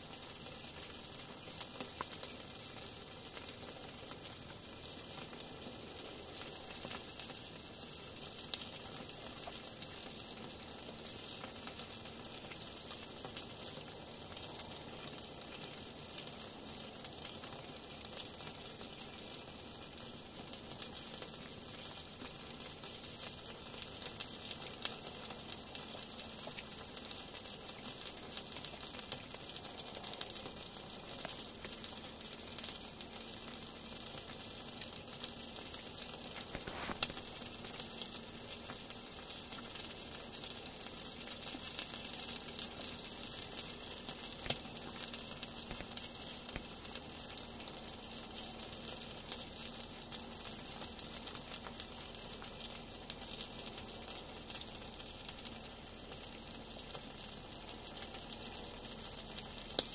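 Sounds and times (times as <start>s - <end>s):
meat sizzling in a pan: 0.0s - 59.9s.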